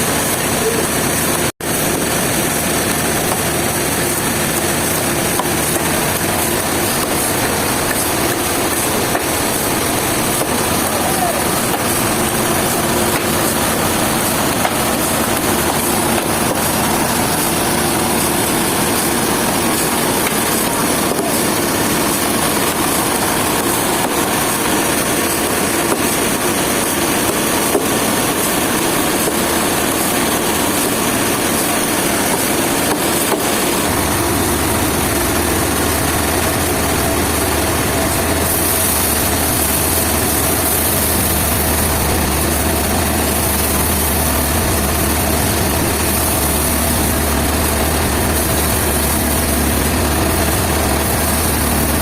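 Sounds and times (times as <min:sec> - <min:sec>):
dense mechanical noise: 0:00.0 - 0:52.0
engine running: 0:00.0 - 0:52.0.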